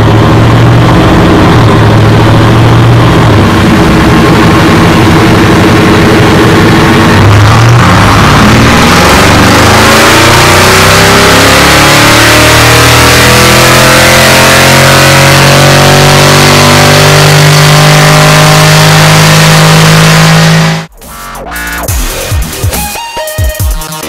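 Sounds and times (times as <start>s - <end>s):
car engine revving at full throttle: 0.0s - 20.9s.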